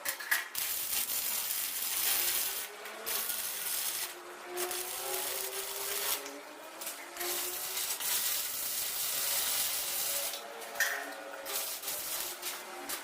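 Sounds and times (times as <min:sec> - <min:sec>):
arc welding crackle: 0:00.0 - 0:13.0.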